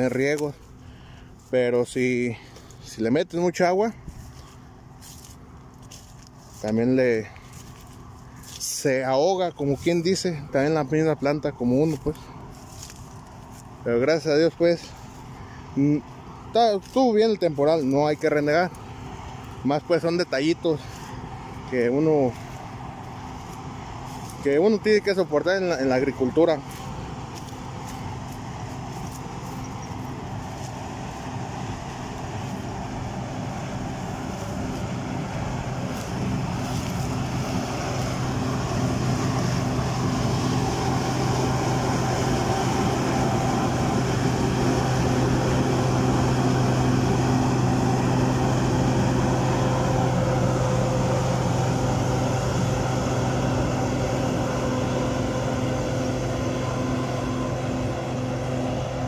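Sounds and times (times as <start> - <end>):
combine harvester engine and machinery drone: 0.0 - 59.0.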